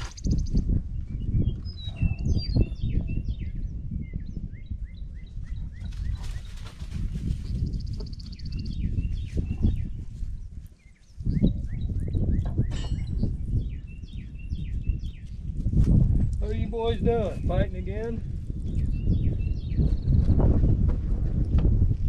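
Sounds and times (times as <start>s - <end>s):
small birds chirping: 0.0s - 20.4s.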